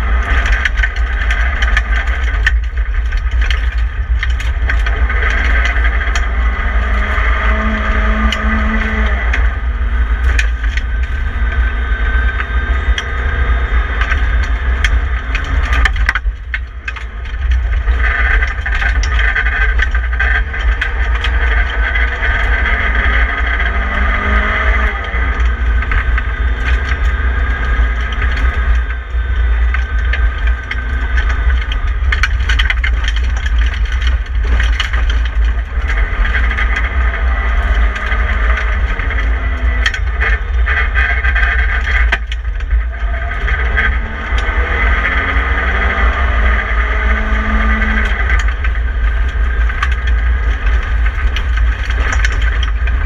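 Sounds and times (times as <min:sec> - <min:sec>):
knocks and rattles from gravel: 0:00.0 - 0:11.4, 0:13.9 - 0:53.0
car engine revving: 0:00.0 - 0:53.0
road and wind rumble: 0:00.0 - 0:53.0.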